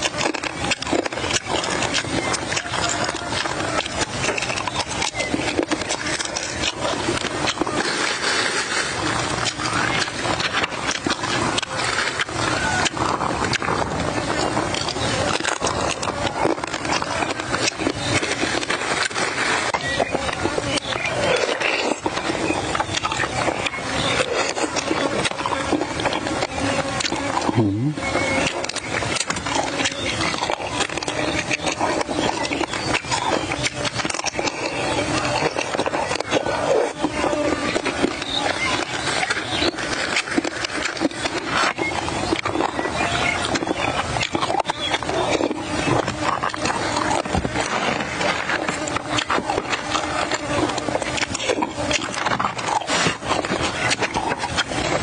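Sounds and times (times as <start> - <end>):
crab shell crackles: 0.0 - 55.0
wet chewing and smacking: 0.0 - 55.0.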